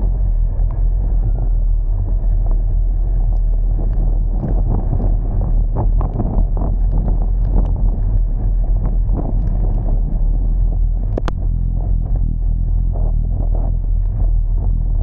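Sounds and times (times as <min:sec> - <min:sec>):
vehicle driving rumble: 0:00.0 - 0:15.0
wind buffeting microphone: 0:00.0 - 0:15.0.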